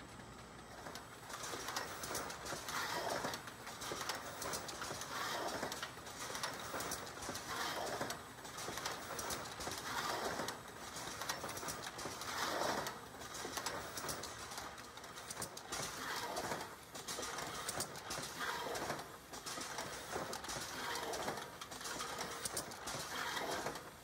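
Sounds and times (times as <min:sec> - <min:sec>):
packaging machine clattering: 0:00.8 - 0:24.0.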